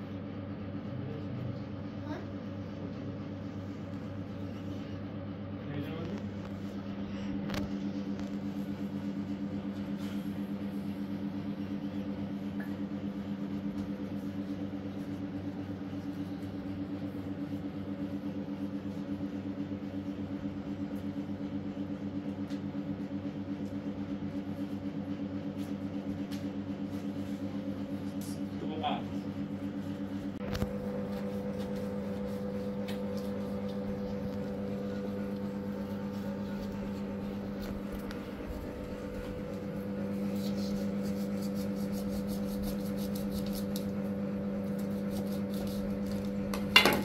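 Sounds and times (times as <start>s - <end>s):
appliance motor humming: 0.1s - 47.0s.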